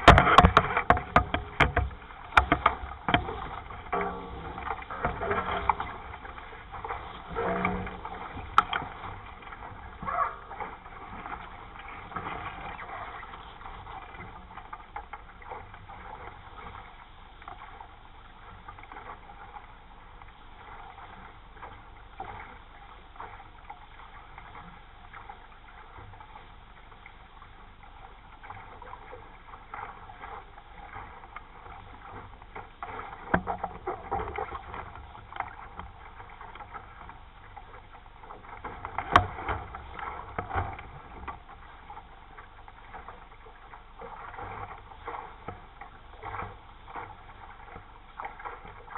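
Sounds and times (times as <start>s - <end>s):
hull splashes and knocks: 0.0s - 48.9s
water rushing along a hull: 0.0s - 48.9s.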